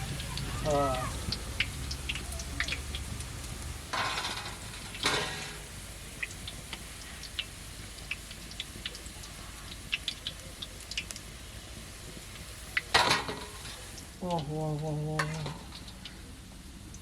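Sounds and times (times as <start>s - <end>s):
food sizzling in oil: 0.0s - 17.0s
oil popping and crackling: 0.0s - 17.0s.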